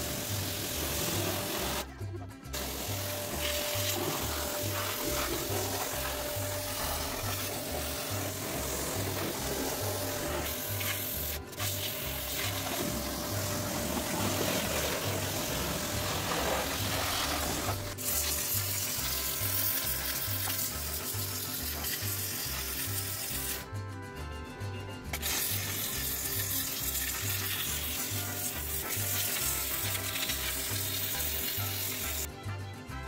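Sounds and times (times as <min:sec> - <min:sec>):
pressure washer water jet hissing: 0:00.0 - 0:01.8, 0:02.6 - 0:23.6, 0:25.2 - 0:32.3.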